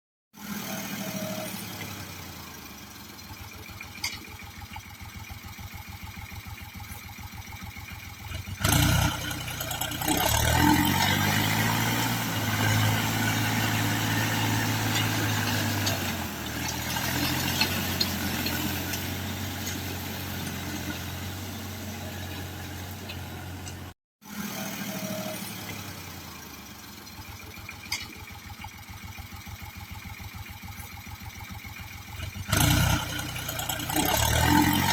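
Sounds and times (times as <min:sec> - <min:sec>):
tractor diesel engine idling and revving: 0:00.3 - 0:34.9.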